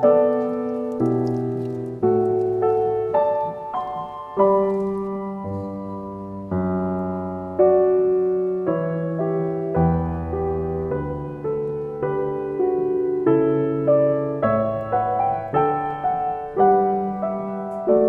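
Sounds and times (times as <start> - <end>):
solo piano chords: 0.0 - 18.0.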